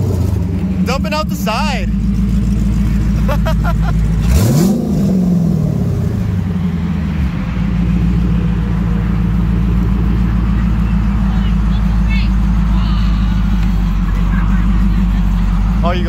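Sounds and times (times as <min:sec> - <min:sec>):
car engine idling: 0:00.0 - 0:16.0
engine revving: 0:00.0 - 0:16.0.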